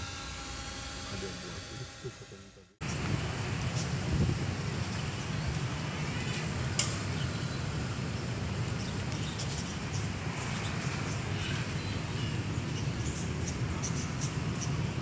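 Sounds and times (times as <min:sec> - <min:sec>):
steady low rumble: 0:00.9 - 0:15.0.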